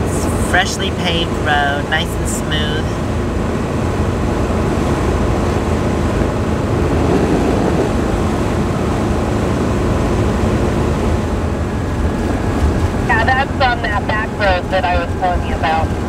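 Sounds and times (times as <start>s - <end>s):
road and engine noise in cab: 0.0s - 16.0s.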